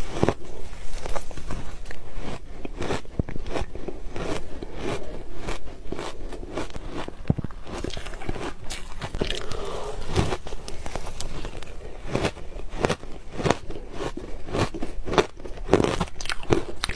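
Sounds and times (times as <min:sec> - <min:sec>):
ice crunching between teeth: 0:00.0 - 0:16.9.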